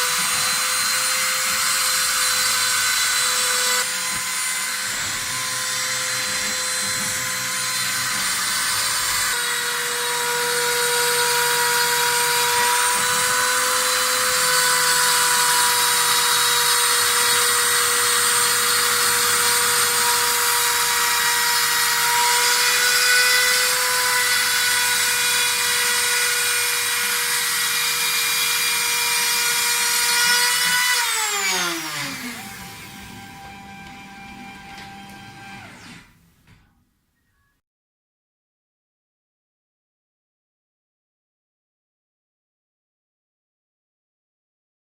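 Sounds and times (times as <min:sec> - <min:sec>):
router spindle whine: 0:00.0 - 0:36.3.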